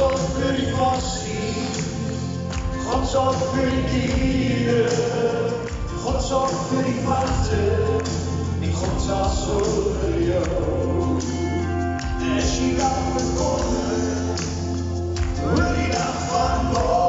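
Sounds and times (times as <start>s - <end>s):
man singing into microphone: 0.0s - 11.5s, 12.2s - 14.4s, 15.4s - 17.0s
congregation singing along: 0.0s - 17.0s
gospel music with strong bass: 0.0s - 17.0s.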